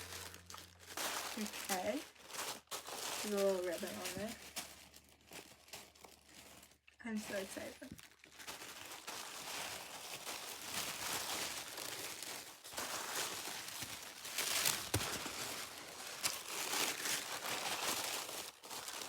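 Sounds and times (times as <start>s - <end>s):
packing material crinkling: 0.0s - 19.0s.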